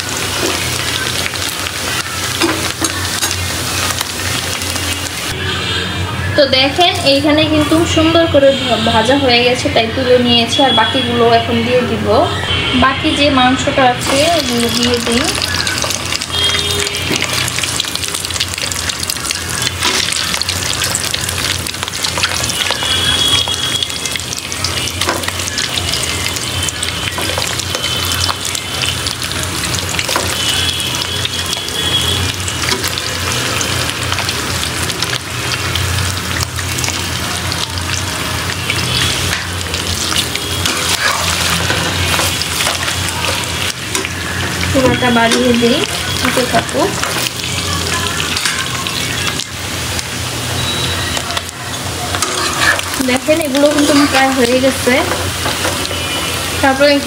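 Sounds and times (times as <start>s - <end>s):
meat sizzling in hot oil: 0.0s - 5.4s, 13.1s - 57.0s.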